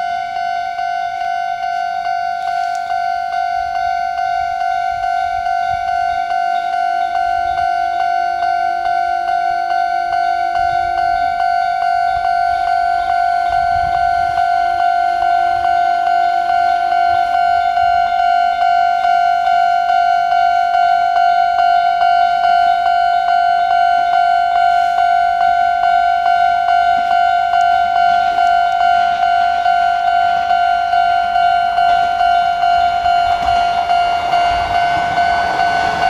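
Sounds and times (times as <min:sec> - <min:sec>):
diesel railcar rumble: 0:00.0 - 0:36.0
level-crossing warning bell: 0:00.0 - 0:36.0.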